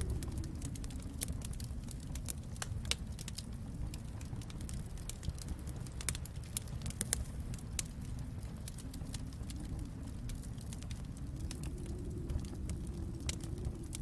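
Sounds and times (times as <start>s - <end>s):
fireplace fire crackling: 0.0s - 14.0s.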